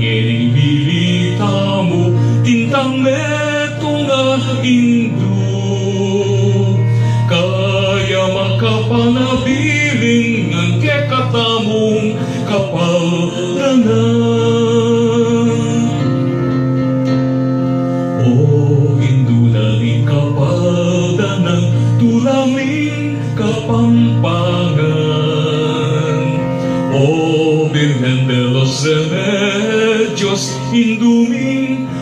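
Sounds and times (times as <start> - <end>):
person singing with vibrato: 0.0 - 16.6, 17.9 - 32.0
sustained low instrumental chords: 0.0 - 32.0.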